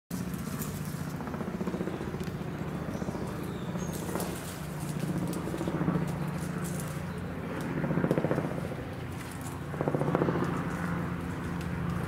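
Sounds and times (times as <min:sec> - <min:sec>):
engine droning in pulses: 0:00.1 - 0:12.0.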